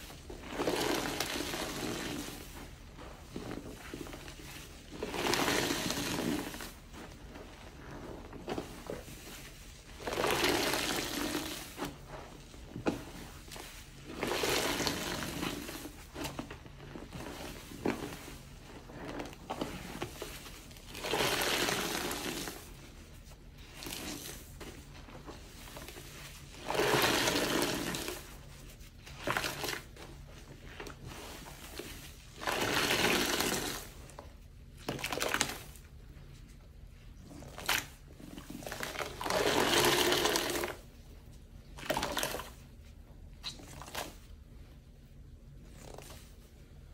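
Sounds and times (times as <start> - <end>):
water gushing from squeezed sponge: 0.0 - 35.9, 37.1 - 41.0, 41.7 - 42.7, 43.3 - 44.4
sponge squishing and splashing: 0.0 - 46.9.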